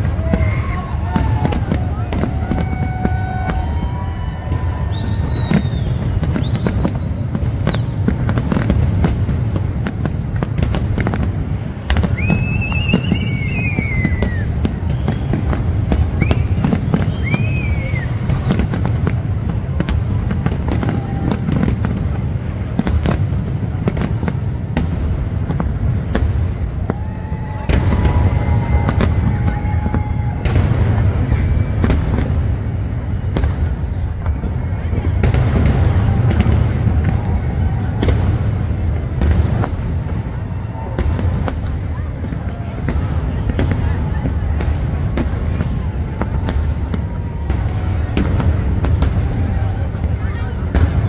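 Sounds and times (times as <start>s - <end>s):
fireworks bangs and crackles: 0.0s - 51.0s
fireworks booming: 0.0s - 51.0s.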